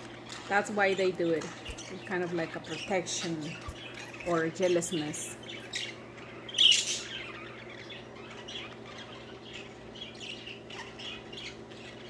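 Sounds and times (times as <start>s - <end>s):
budgerigars chirping: 0.2s - 12.0s.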